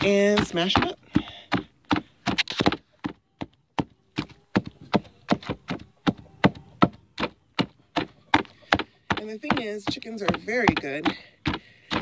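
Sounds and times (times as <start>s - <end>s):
wooden pole pounding food in bucket: 0.0s - 12.0s.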